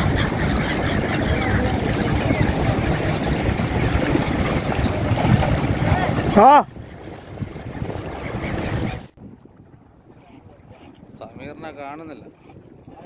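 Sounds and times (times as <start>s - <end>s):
wind rushing: 0.0s - 11.6s
choppy sea: 0.0s - 13.0s
seabird wingbeats and splashing: 0.0s - 13.0s.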